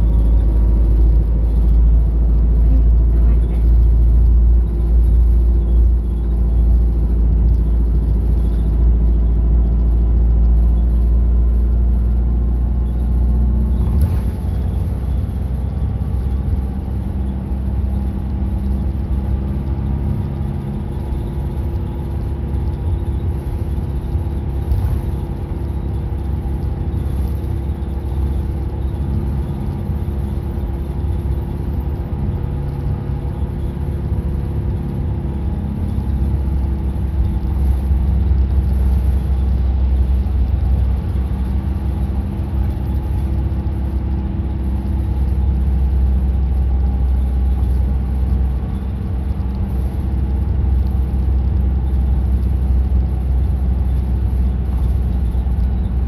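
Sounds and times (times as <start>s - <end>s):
bus engine hum: 0.0s - 56.0s.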